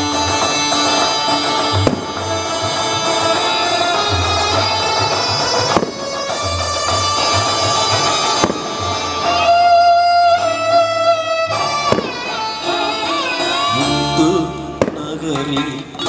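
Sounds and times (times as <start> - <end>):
instrumental background music: 0.0 - 16.0
sharp cracks: 0.4 - 13.7, 14.8 - 16.0.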